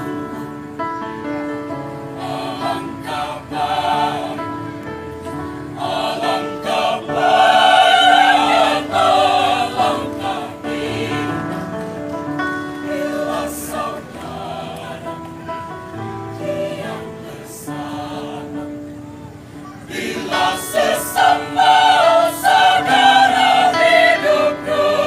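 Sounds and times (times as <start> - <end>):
mixed choir singing held chords: 0.0 - 25.0.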